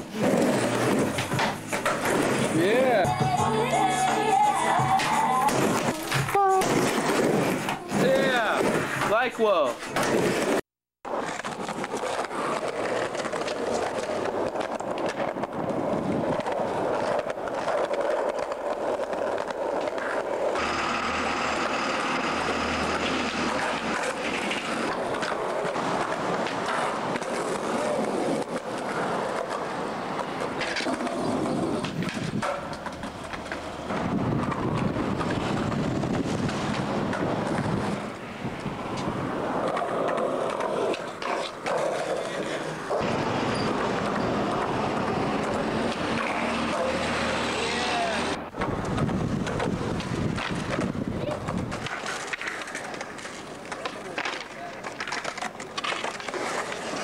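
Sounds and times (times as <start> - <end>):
skateboard clacking: 0.0 - 57.0
skateboard wheels rolling on concrete: 0.0 - 57.0.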